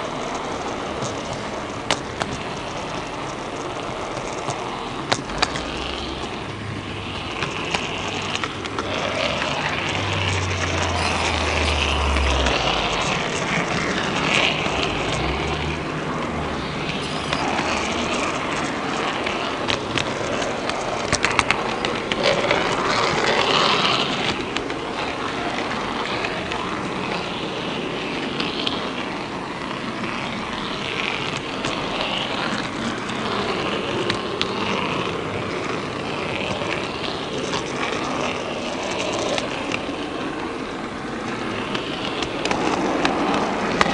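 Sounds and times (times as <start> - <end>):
model train wheels rolling: 0.0 - 43.9.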